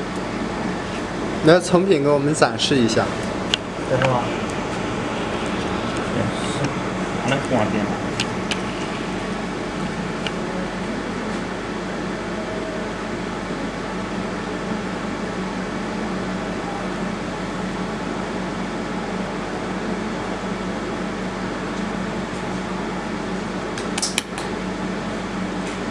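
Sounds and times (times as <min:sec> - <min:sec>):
electric fan whir: 0:00.0 - 0:25.9.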